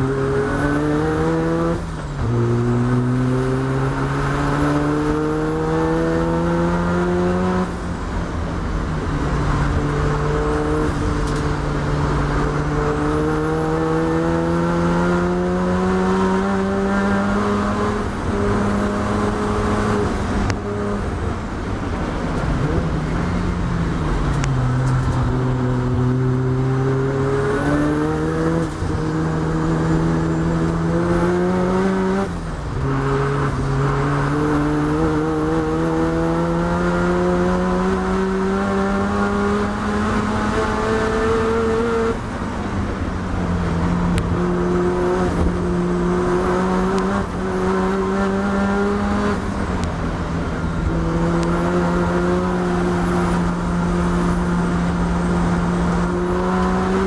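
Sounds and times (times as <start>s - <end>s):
rotary engine at racing speed: 0.0s - 57.0s.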